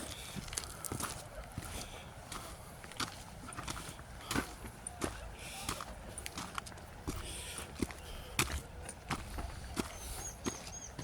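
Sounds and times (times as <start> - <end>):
footsteps on rocky trail: 0.0 - 11.0.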